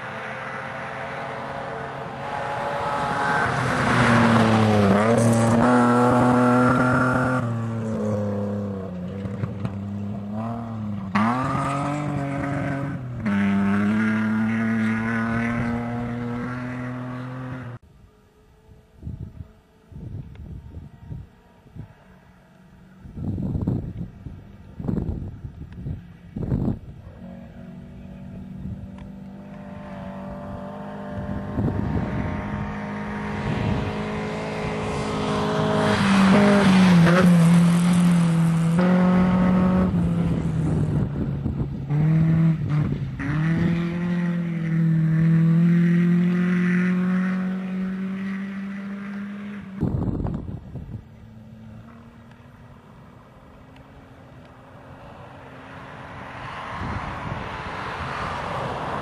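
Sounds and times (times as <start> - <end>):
rally car engine at full throttle: 0.0 - 17.8, 21.8 - 59.0.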